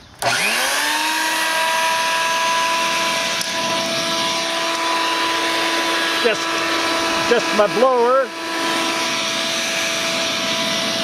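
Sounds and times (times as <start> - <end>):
electric blower motor whine: 0.0 - 11.0.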